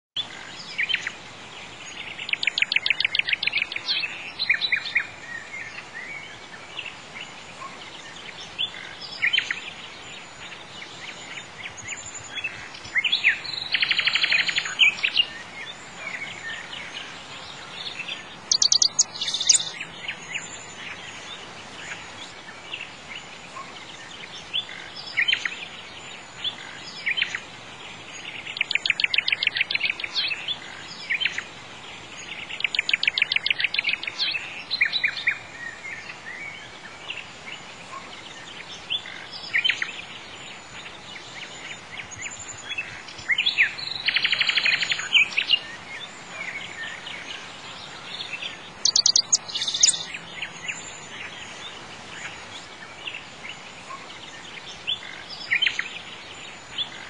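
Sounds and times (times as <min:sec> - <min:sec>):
songbirds chirping and trilling: 0:00.2 - 0:57.0
steady background hiss: 0:00.2 - 0:57.0.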